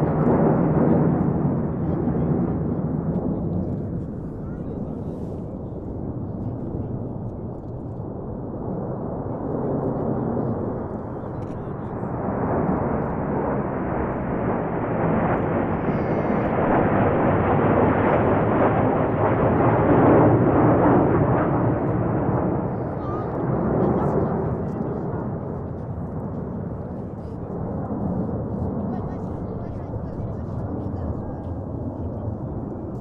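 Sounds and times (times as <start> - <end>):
jets flying over roaring: 0.0 - 33.0.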